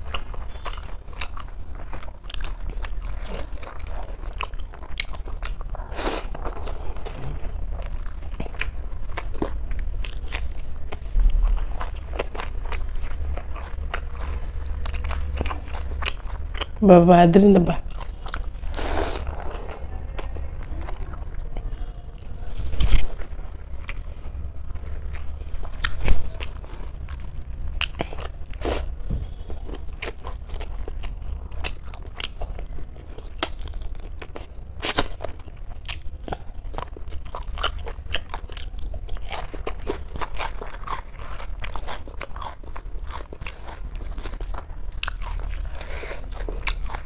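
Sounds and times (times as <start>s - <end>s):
crunchy chewing: 0.0s - 16.8s, 17.7s - 47.0s.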